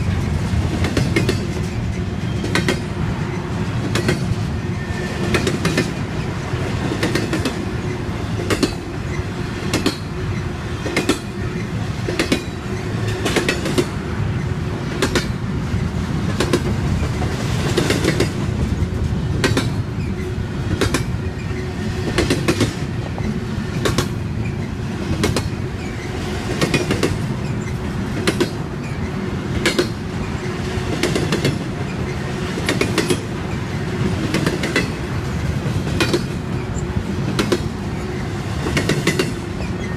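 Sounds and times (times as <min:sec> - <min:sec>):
steel wheels rumbling on rail: 0:00.0 - 0:39.9
wheels clicking over rail joints: 0:00.0 - 0:39.9.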